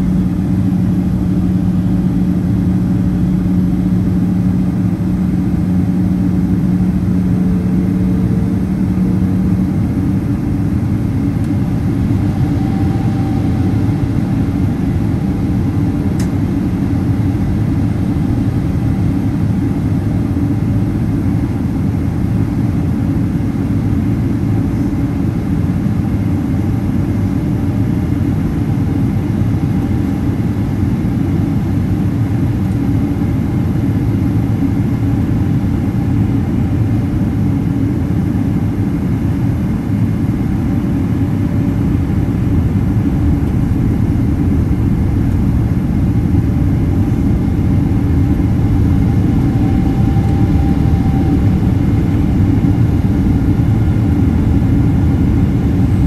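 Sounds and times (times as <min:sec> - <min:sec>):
jet engine and airflow rumble: 0:00.0 - 0:56.0.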